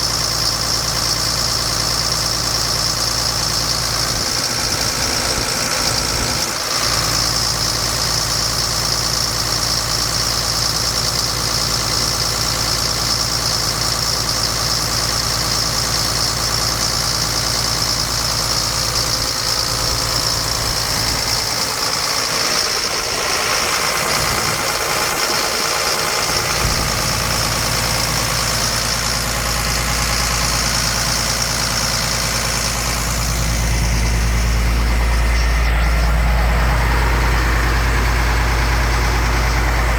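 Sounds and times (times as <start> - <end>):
air compressor engine running: 0.0 - 39.9.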